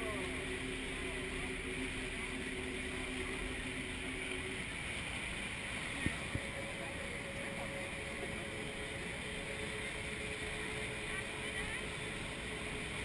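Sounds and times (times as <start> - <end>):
boat engines humming: 0.0 - 13.0
rushing water: 0.0 - 13.0.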